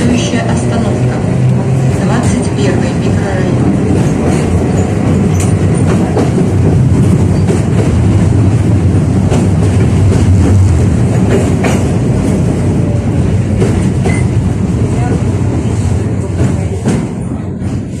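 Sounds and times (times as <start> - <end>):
tram low rumble: 0.0 - 18.0.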